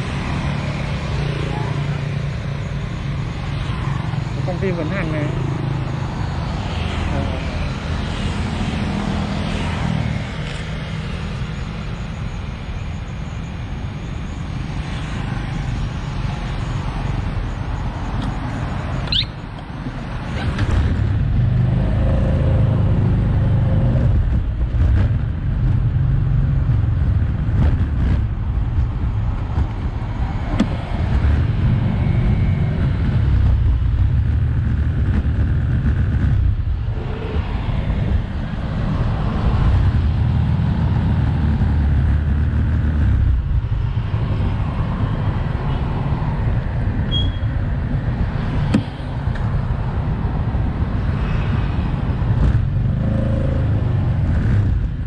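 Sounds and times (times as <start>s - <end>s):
motorbikes and cars running: 0.0s - 55.0s.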